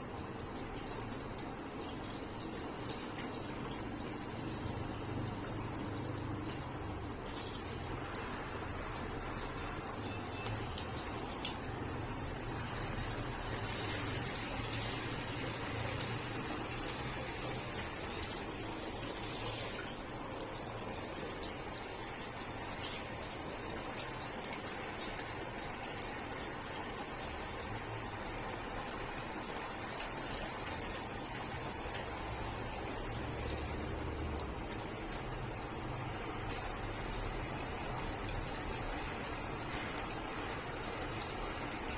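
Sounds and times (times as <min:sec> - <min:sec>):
small splashes and drips: 0:00.0 - 0:41.9
water running: 0:00.0 - 0:41.9.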